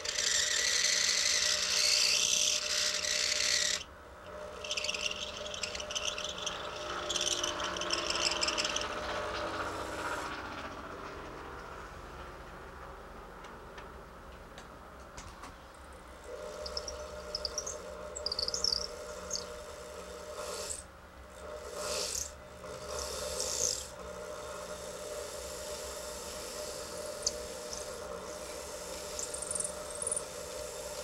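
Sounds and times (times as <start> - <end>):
rasping strokes on acrylic: 0.0 - 10.3, 16.3 - 31.0
small motor tool humming: 0.0 - 10.4, 16.2 - 31.0.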